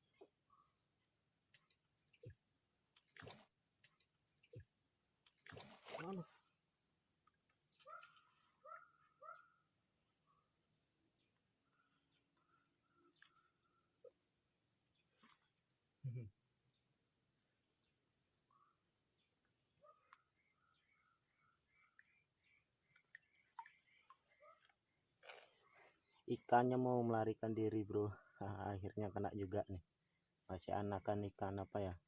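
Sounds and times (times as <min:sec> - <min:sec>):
faint insect chirps: 0:00.0 - 0:32.0
insects chorus: 0:00.0 - 0:32.0.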